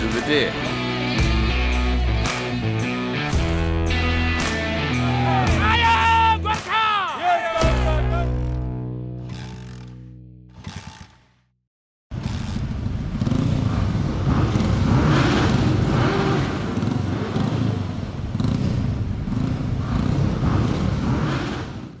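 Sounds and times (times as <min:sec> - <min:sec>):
motorcycle engines rumbling: 0:00.0 - 0:08.5, 0:12.1 - 0:22.0.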